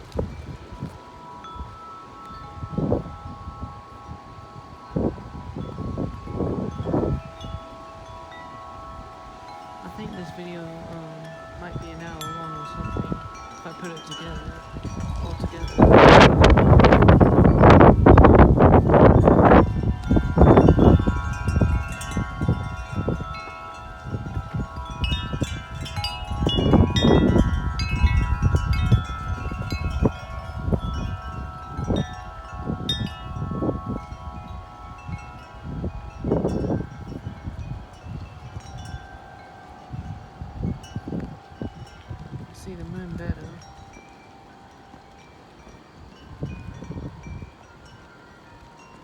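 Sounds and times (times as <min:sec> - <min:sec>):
wind chimes ringing: 0:00.0 - 0:49.0
wind rumbling on microphone: 0:00.0 - 0:49.0.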